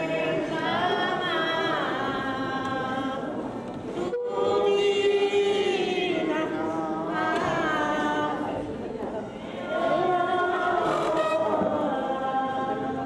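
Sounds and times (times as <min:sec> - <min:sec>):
women singing a slow hymn: 0:00.0 - 0:13.0.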